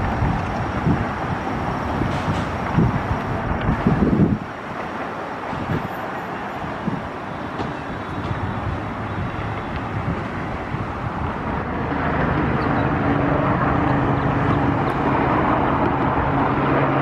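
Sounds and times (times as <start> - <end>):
traffic noise hiss: 0.0 - 17.0
vehicle engine hum: 0.0 - 17.0.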